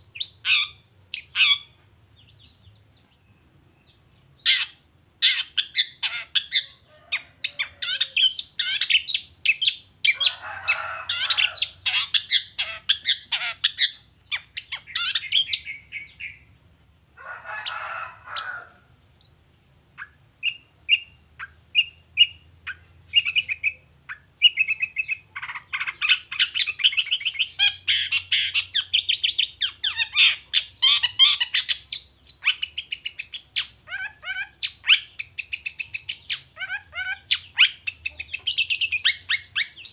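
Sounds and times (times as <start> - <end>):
shrike singing chattering song: 0.0 - 16.5, 17.6 - 39.9.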